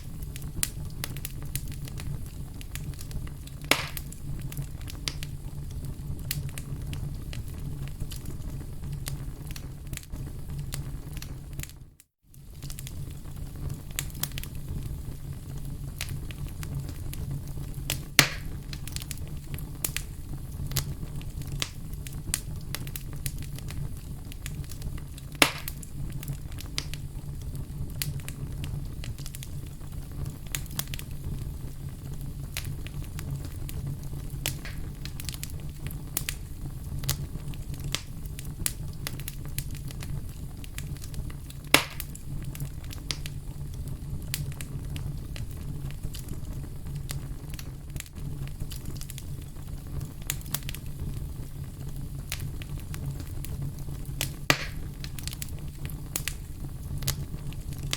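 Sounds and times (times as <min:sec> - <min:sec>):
burning wood popping: 0:00.0 - 0:11.7, 0:12.3 - 0:57.9
wood fire crackling: 0:00.0 - 0:57.9.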